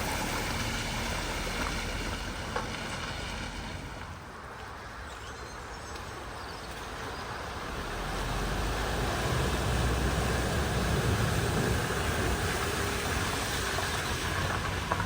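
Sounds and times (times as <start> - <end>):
vehicle engine approaching: 0.0 - 4.2, 7.0 - 15.0
road noise: 0.0 - 15.0.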